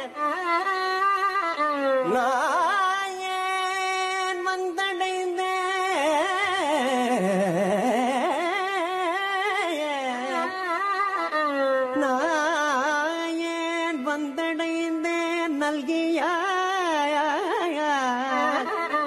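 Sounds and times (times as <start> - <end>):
violin melody: 0.0 - 7.6, 8.3 - 15.6, 16.4 - 19.0.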